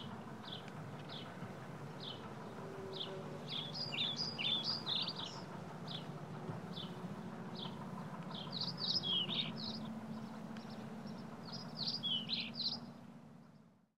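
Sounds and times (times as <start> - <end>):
birds chirping: 0.0 - 13.6.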